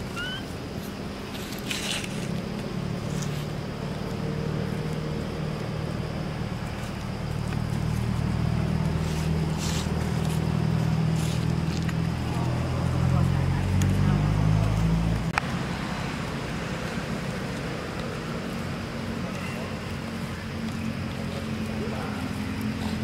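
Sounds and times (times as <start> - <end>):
engine running hum: 0.0 - 23.0.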